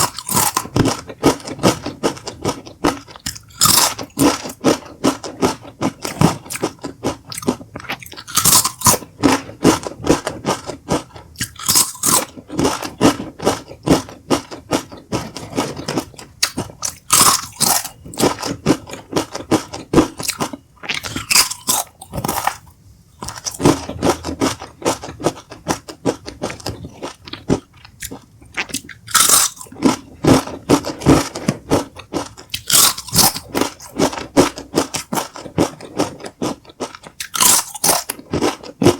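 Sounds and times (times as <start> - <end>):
tortilla chips crunching: 0.0 - 22.6, 23.2 - 38.9.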